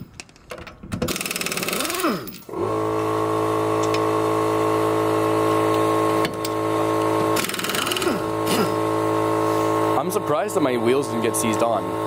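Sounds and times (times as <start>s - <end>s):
air compressor tool droning: 1.1s - 12.0s.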